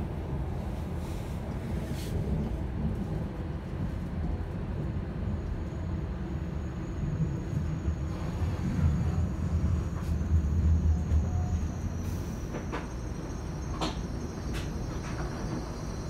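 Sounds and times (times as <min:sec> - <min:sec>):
train cabin rumble: 0:00.0 - 0:16.0.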